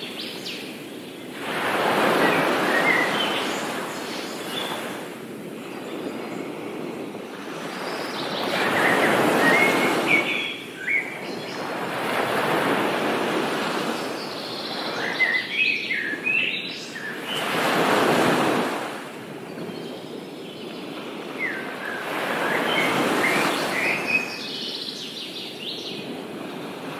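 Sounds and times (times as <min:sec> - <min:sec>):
surf washing in: 0:00.0 - 0:26.9.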